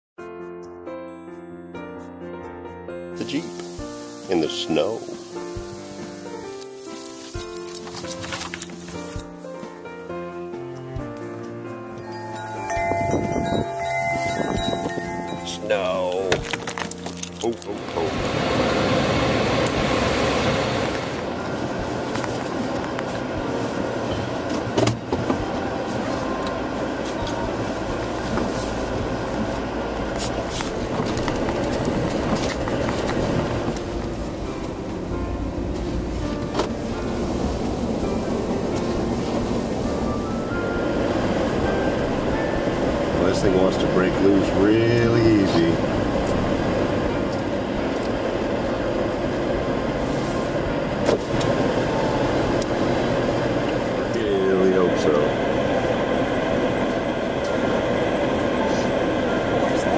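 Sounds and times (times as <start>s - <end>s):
car engine and tyre noise: 3.2s - 59.9s.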